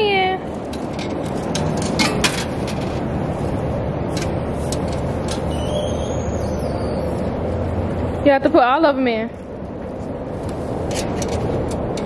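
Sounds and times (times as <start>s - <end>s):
loud rushing background noise: 0.0s - 12.0s.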